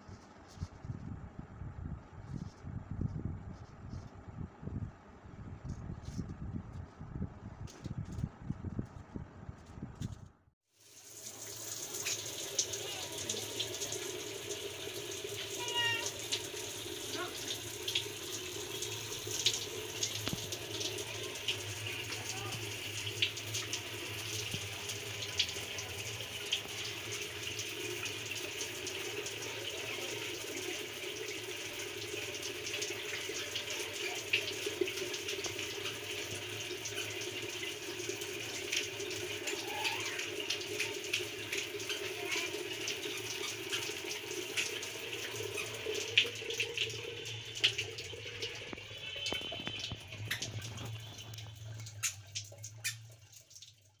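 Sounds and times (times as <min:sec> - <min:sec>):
water drips and patters: 0:10.7 - 0:54.0.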